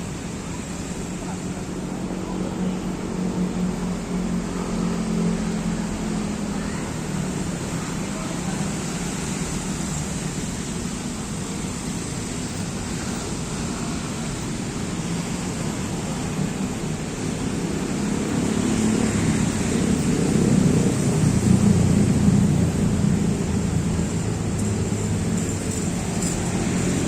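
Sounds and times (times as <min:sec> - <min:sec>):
distant road traffic hum: 0:00.0 - 0:27.0.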